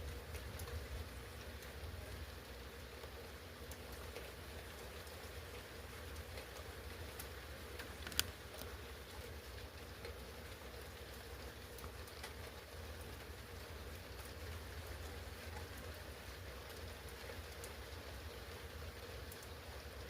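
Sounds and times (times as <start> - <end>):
raindrop ticks: 0.0 - 20.0
steady rain falling: 0.0 - 20.0.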